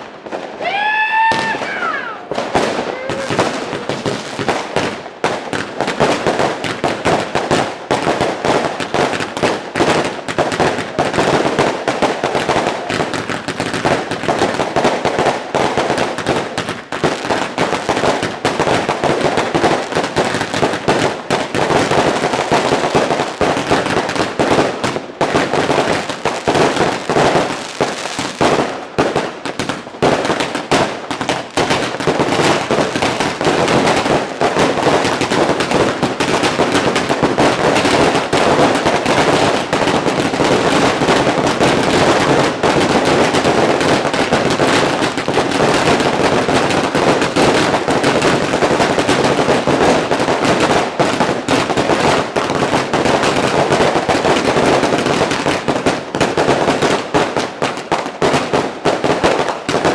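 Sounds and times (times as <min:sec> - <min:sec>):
fireworks and firecrackers banging: 0:00.0 - 0:59.9.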